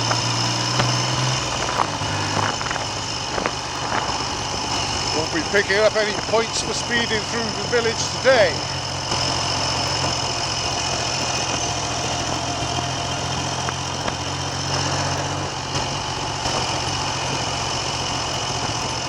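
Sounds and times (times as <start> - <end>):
motorcycle engine running at low revs: 0.0 - 19.0.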